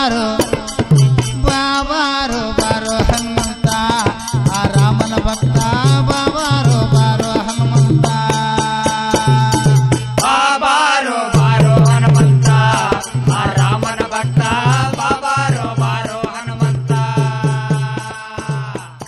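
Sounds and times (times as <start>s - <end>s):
tabla strokes: 0.0s - 10.6s, 11.4s - 19.0s.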